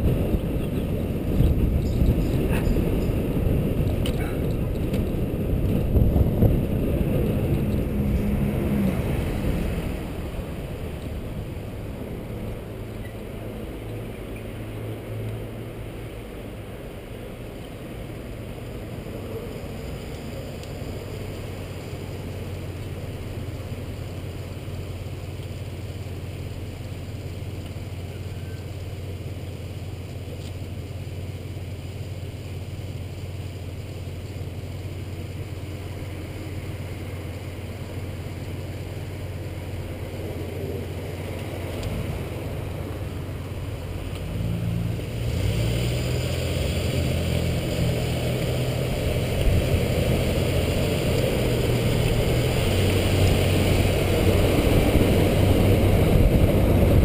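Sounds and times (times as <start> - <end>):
car idling: 0.0 - 57.0
road rumble: 0.0 - 57.0
street traffic hum: 0.0 - 57.0
wind: 0.0 - 57.0.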